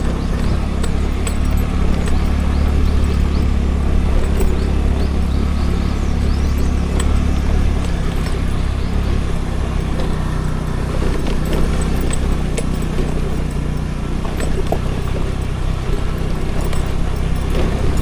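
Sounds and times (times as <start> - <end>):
light clicks and rattles: 0.0 - 18.0
scooter engine hum: 0.0 - 18.0
wind and road noise: 0.0 - 18.0.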